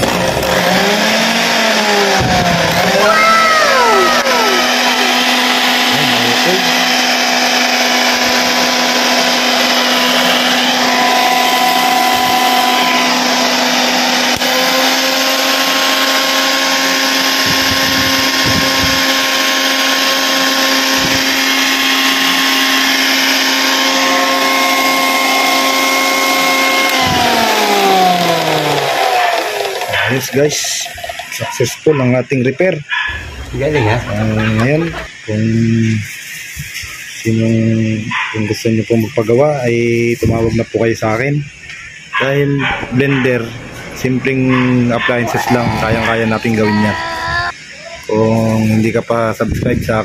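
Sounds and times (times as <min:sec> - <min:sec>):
blender motor whining: 0:00.0 - 0:31.8, 0:33.1 - 0:38.1, 0:45.1 - 0:48.9.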